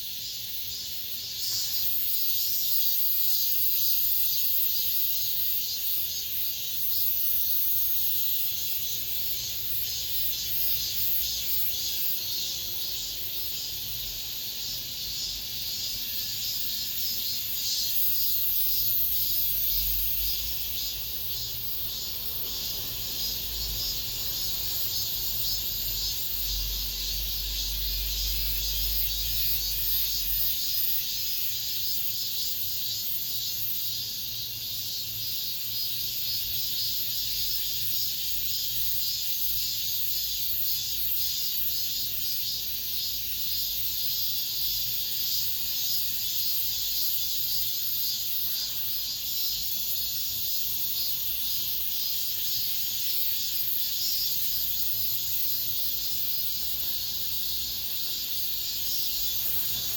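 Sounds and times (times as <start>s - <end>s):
cicadas buzzing: 0.0s - 59.9s.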